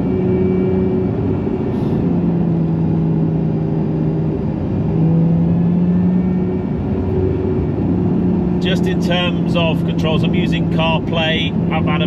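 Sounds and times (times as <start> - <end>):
car engine running at moderate revs: 0.0 - 12.0.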